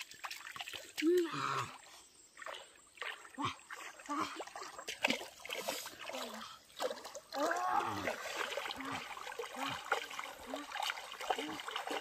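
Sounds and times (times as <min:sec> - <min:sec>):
legs wading through water: 0:00.0 - 0:12.0.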